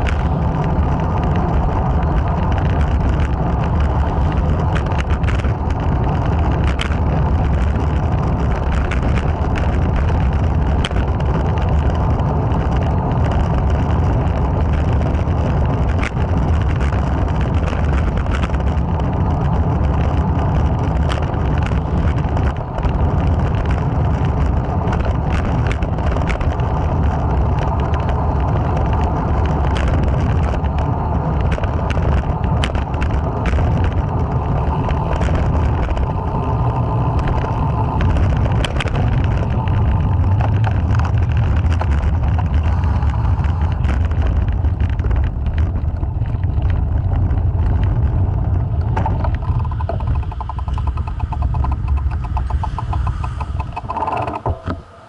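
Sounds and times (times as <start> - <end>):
bicycle clicks and rattles: 0.0 - 55.0
road noise: 0.0 - 55.0
wind buffeting microphone: 0.0 - 55.0.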